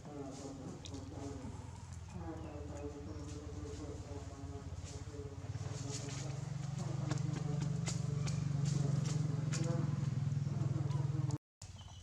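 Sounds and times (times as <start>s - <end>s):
motor droning: 0.1s - 11.4s.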